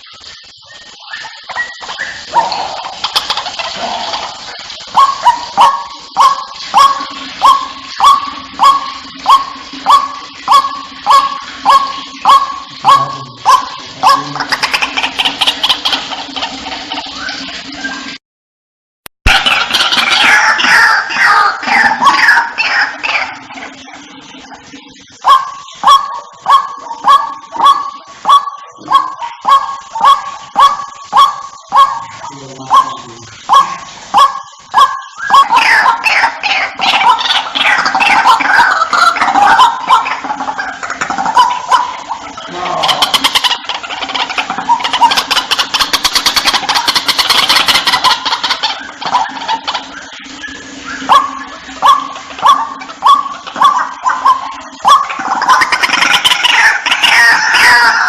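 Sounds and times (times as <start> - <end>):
waterhen calling sharp notes: 0.0 - 18.2, 19.2 - 58.0.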